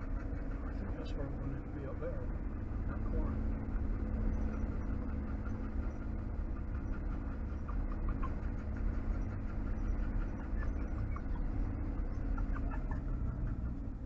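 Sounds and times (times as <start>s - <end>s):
motorhome engine rumbling: 0.0s - 14.0s.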